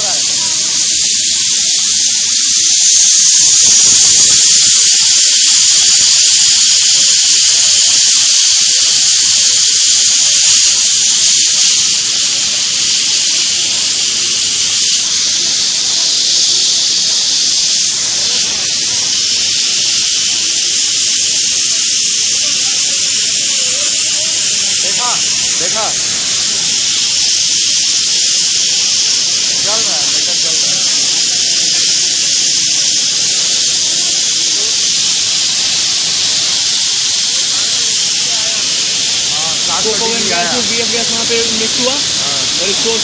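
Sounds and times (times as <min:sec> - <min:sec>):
loud high-pitched machinery hiss: 0:00.0 - 0:43.0.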